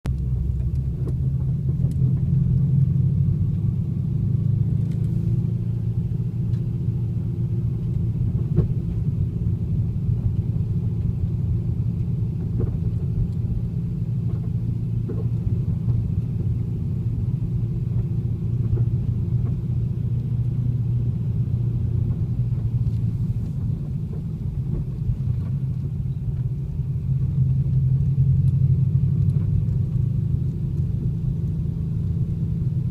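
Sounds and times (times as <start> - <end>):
car engine rumble: 0.0 - 32.9.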